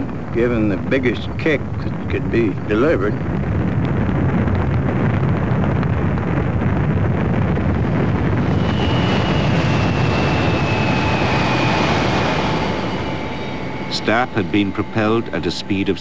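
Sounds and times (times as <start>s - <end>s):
rocket motors roaring: 0.0s - 16.0s.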